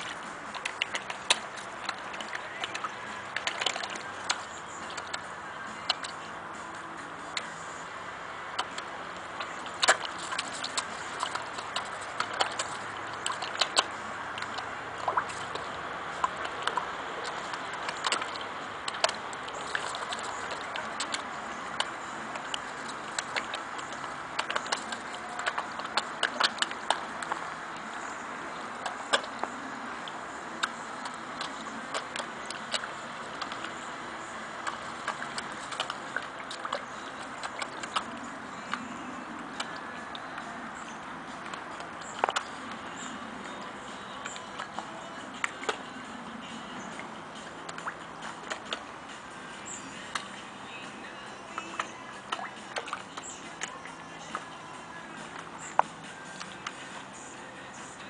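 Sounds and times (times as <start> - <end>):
fish smacking at water surface: 0.0 - 6.6, 8.3 - 57.2
steady watery hiss: 0.0 - 58.0.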